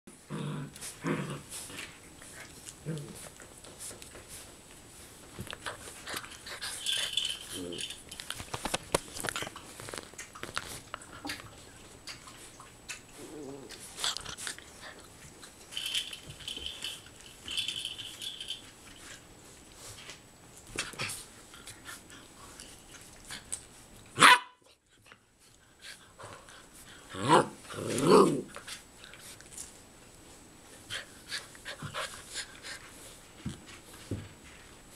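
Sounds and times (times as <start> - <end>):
puppies playing and scuffling: 0.7 - 24.2, 24.8 - 34.9.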